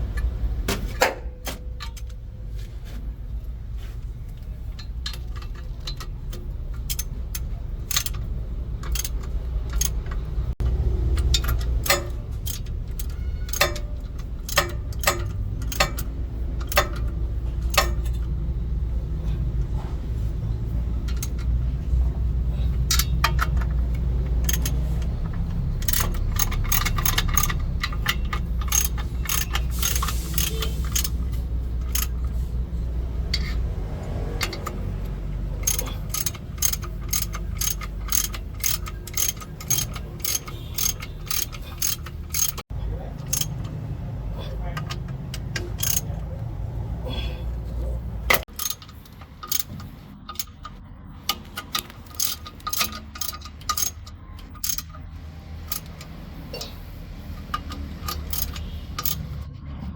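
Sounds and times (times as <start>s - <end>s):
metal tools clinking on metal: 4.2s - 18.6s, 19.2s - 59.7s.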